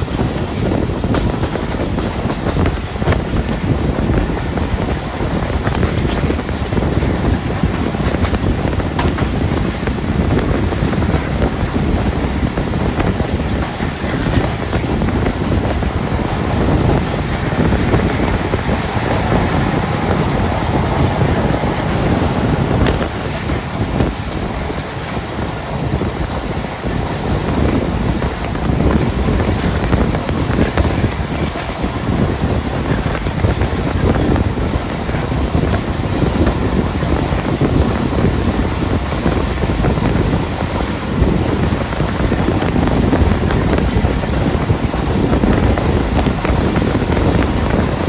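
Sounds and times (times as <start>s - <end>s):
train wheels rumbling on rails: 0.0s - 48.0s
wind rushing past microphone: 0.0s - 48.0s.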